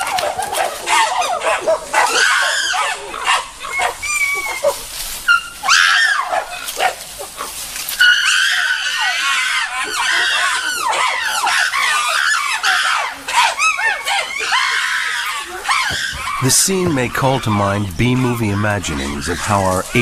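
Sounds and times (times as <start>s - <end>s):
chimpanzees screaming: 0.0s - 20.0s.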